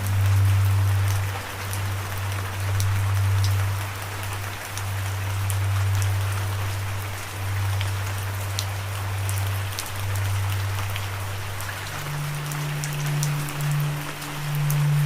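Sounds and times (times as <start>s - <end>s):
low musical drone: 0.0s - 15.0s
steady rain: 0.0s - 15.0s.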